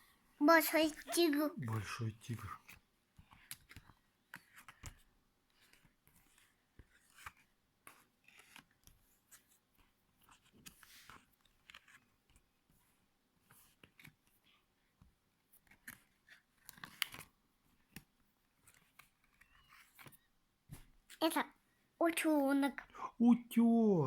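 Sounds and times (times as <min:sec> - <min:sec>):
board book pages turning: 0:00.7 - 0:14.4, 0:15.0 - 0:21.2.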